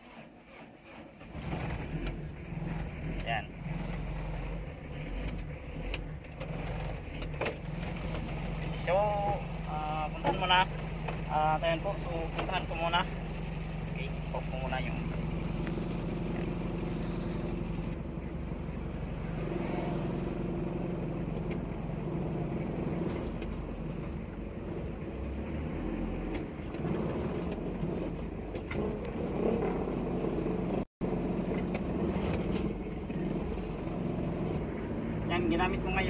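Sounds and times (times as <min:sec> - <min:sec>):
van engine and road noise: 0:00.0 - 0:36.0.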